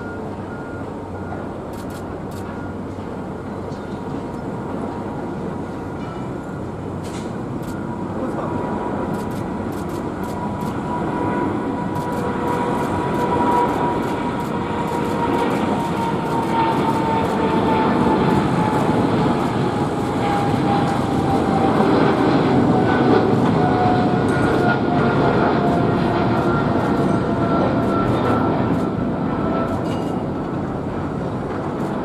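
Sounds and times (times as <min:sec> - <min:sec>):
jet engine roar with fan whine: 0:00.0 - 0:32.0.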